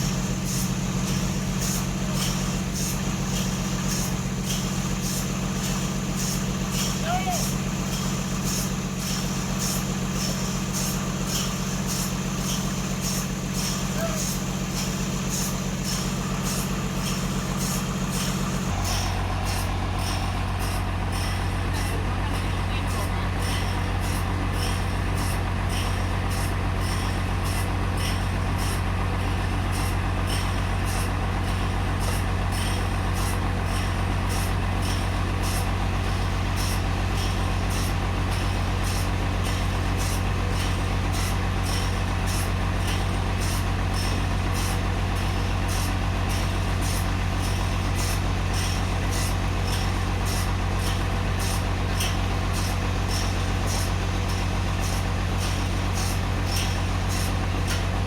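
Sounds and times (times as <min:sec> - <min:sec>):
deep engine hum: 0:00.0 - 0:58.0.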